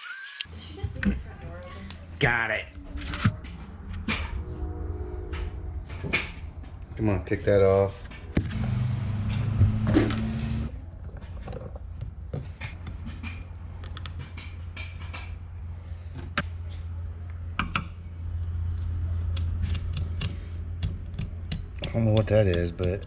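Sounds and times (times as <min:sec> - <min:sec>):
steady low hum: 0:00.6 - 0:23.0.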